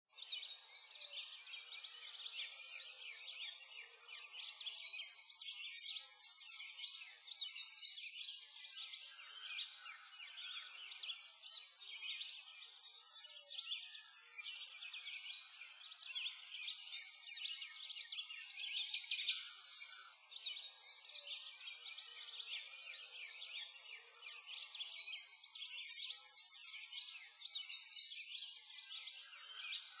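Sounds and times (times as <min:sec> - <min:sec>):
small birds chirping: 0:00.1 - 0:30.0.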